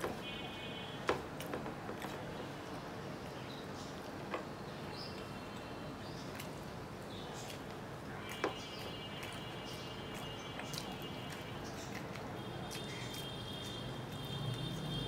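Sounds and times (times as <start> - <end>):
person chewing wetly: 0.9 - 4.5, 5.1 - 15.0.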